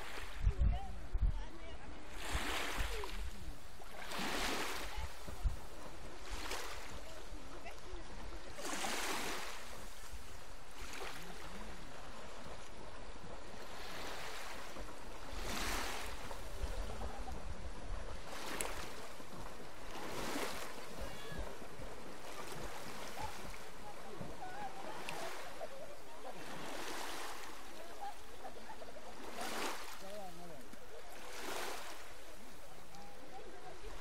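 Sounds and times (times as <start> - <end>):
surf breaking on shore: 1.8 - 34.0.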